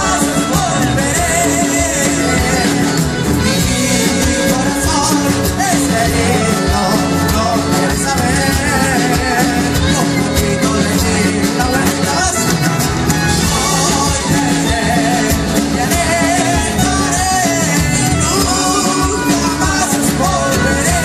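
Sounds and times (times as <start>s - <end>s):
acoustic guitar: 0.0s - 21.0s
drums: 0.0s - 21.0s
electric bass: 0.0s - 21.0s
man singing: 0.0s - 21.0s.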